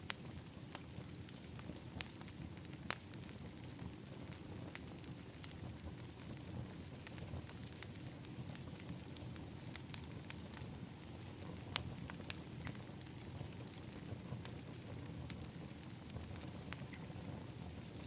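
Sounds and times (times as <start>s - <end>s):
fire crackling with pops and snaps: 0.0s - 18.0s
low fire rumble: 0.0s - 18.0s.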